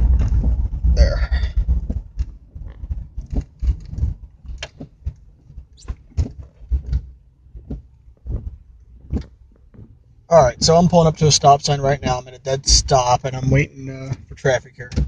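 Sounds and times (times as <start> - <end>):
truck engine and road rumble: 0.0 - 15.0
irregular clicks and knocks: 1.5 - 15.0.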